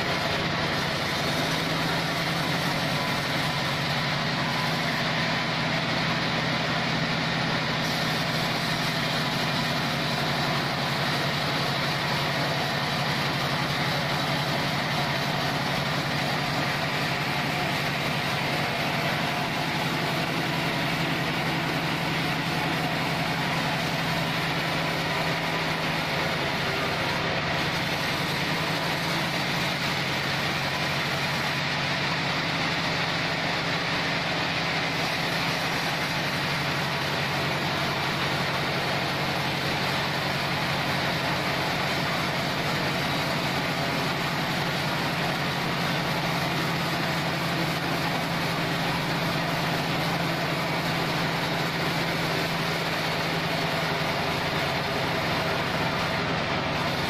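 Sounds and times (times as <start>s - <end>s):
sawmill machine drone: 0.0s - 57.0s.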